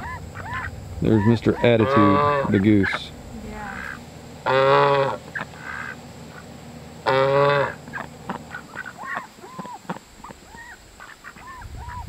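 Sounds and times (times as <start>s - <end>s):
goose honking loudly: 0.0s - 3.0s, 3.6s - 12.0s
soft bird calls from flock: 0.0s - 12.0s.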